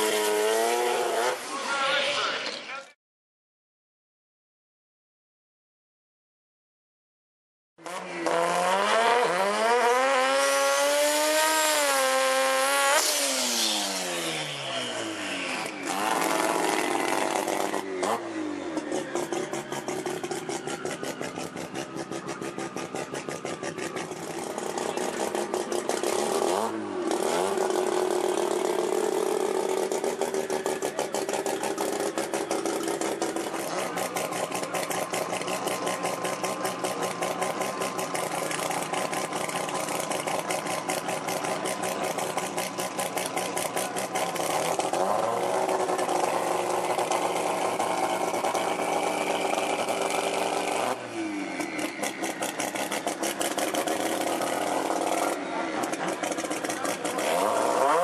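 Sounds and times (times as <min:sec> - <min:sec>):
rotary engine revving and idling: 0:00.0 - 0:02.4, 0:07.8 - 0:58.0.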